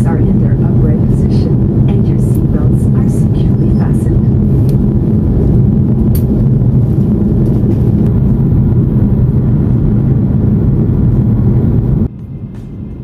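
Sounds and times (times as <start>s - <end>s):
jet airliner cabin noise: 0.0s - 13.0s.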